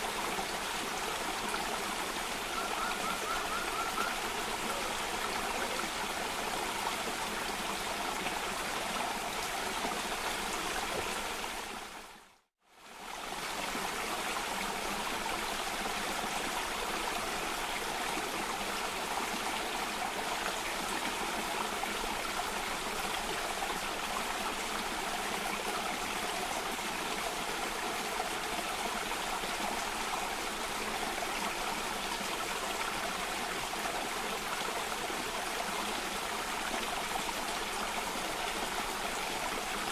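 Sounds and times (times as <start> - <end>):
cascading water: 0.0 - 39.9.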